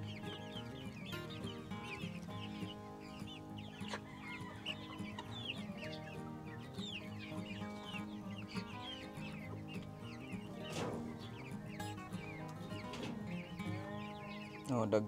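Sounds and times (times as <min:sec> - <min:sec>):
chicks peeping and clucking: 0:00.0 - 0:15.0
soft background music: 0:00.0 - 0:15.0.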